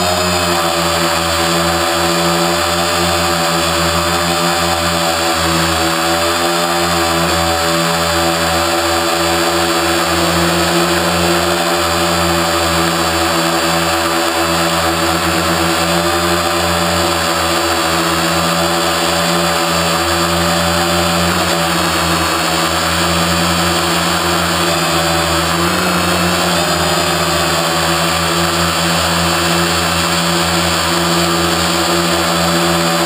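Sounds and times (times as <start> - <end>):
quadcopter motors humming: 0.0 - 33.0.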